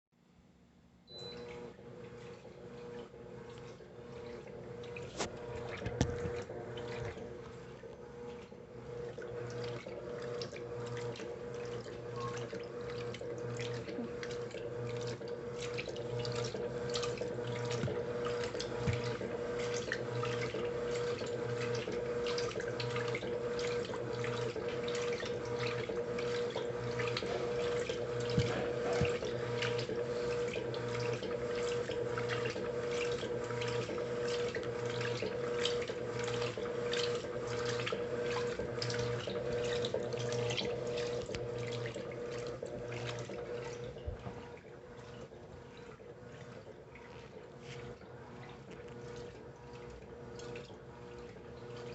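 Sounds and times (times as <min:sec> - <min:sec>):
electrical hum: 0:01.1 - 0:51.9
water pouring into washing machine: 0:01.1 - 0:51.9.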